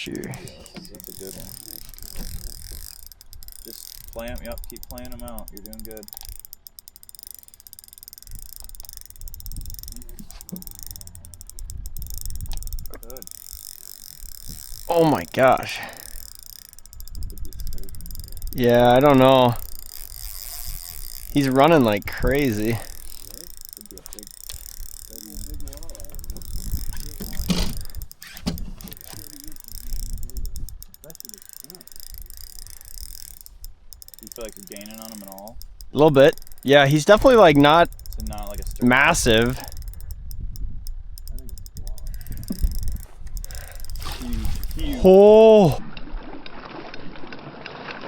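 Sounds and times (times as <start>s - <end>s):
fishing reel clicking rapidly: 0.0s - 45.8s.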